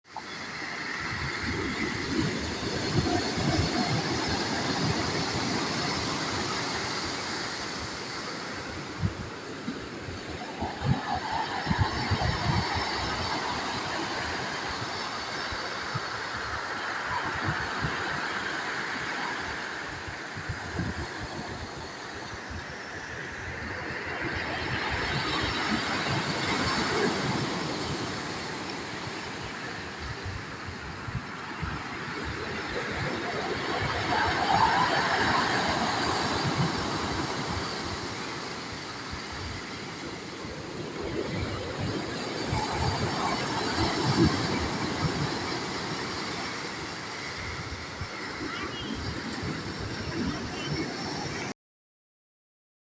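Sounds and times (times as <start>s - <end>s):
sea waves breaking: 0.1s - 51.5s.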